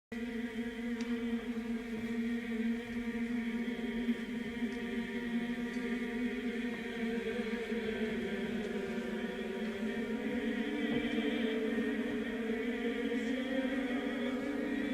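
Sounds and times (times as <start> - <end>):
low chant-like drone: 0.2 - 14.9.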